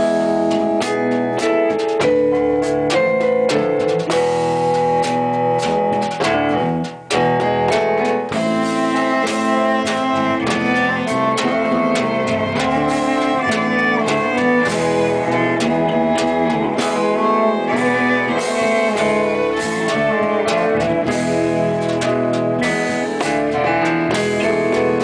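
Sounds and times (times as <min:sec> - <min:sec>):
guitar: 0:00.0 - 0:25.0
bowed violin and cello: 0:04.0 - 0:25.0.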